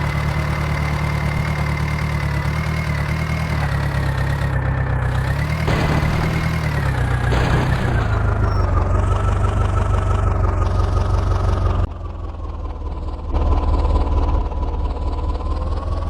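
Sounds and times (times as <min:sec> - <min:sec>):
diesel engine running: 0:00.0 - 0:16.0
engine whine: 0:00.0 - 0:16.0.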